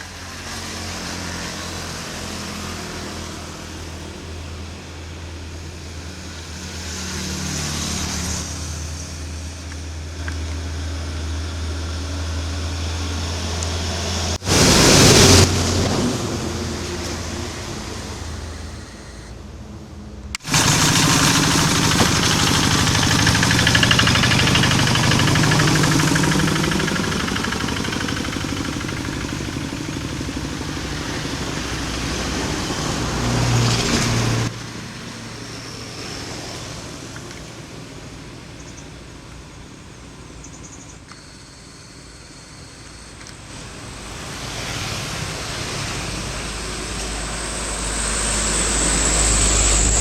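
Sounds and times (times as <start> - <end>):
diesel truck engine labouring: 0.0 - 40.3.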